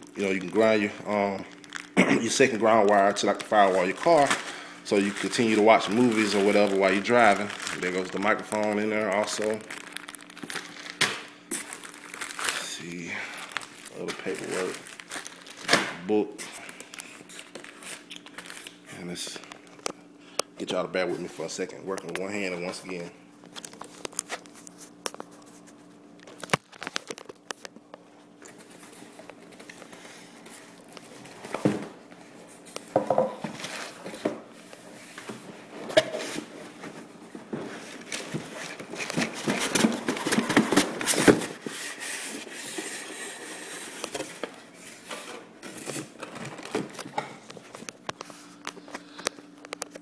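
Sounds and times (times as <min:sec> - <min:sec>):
plastic bags crinkling: 0:00.0 - 0:19.9, 0:21.3 - 0:50.0.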